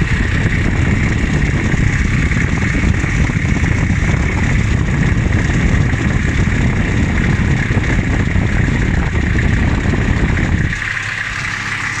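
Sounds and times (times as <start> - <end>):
diesel engine low rumble: 0.0 - 12.0
steady high whine: 0.0 - 12.0.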